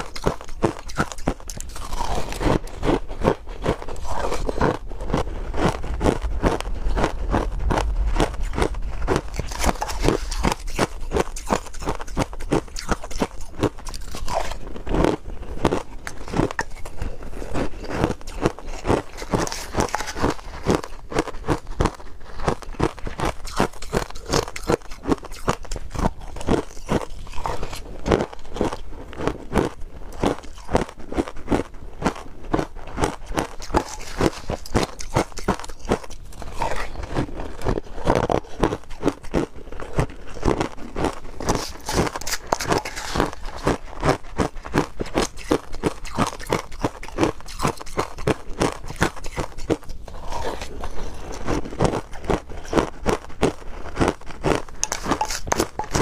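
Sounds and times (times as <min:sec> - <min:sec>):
crunching ice while chewing: 0:00.0 - 0:56.0.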